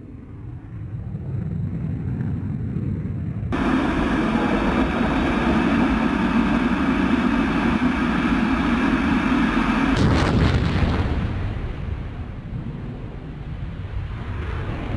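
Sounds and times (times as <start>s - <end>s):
jet cockpit engine and rushing air: 0.0s - 14.9s.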